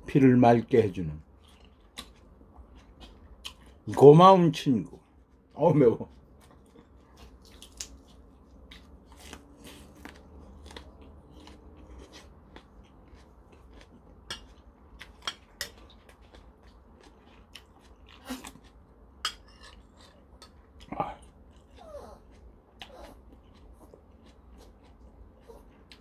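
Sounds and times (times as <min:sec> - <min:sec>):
chewing raw onion: 0:00.5 - 0:26.0.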